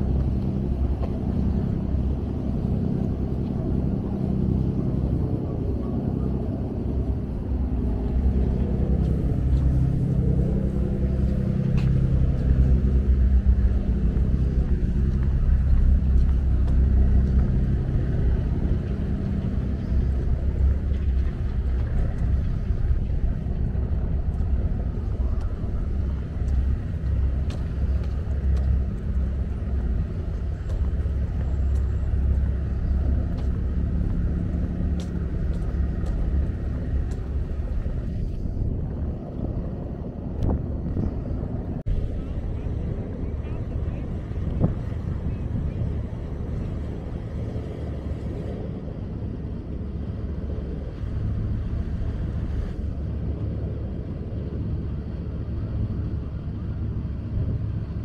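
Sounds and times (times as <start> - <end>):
engine rumbling: 0.0 - 58.0
wind buffeting microphone: 0.0 - 58.0.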